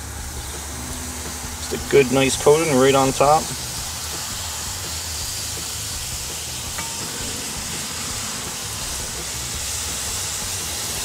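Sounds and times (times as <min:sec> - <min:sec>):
food sizzling on grill: 0:00.0 - 0:11.0.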